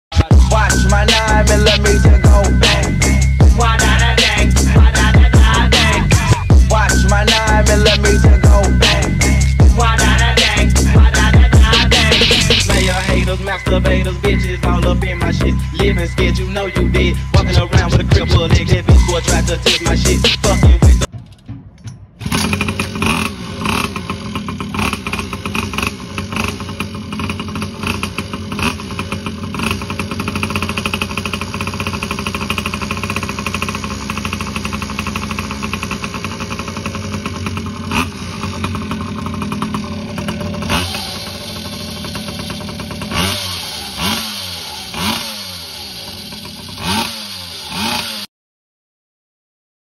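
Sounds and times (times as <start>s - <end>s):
throttle revving: 0.1s - 48.3s
small two-stroke engine running: 0.2s - 21.0s, 22.2s - 48.3s.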